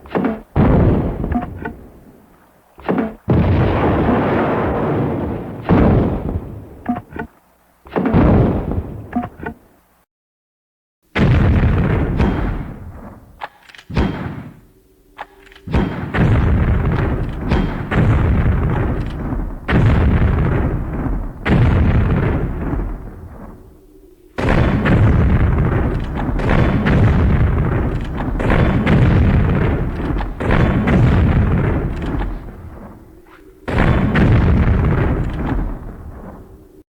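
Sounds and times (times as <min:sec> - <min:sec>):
heavy explosion blasts with rumble: 0:00.5 - 0:02.2, 0:03.2 - 0:07.0, 0:08.2 - 0:09.1, 0:11.2 - 0:13.4, 0:15.7 - 0:36.8.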